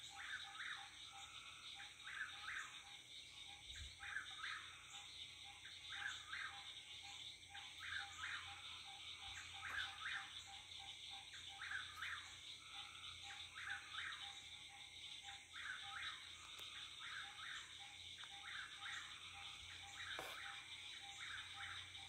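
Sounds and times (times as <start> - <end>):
frogs and insects chorus: 0.0 - 22.0
nightjar whistled song: 0.0 - 22.0.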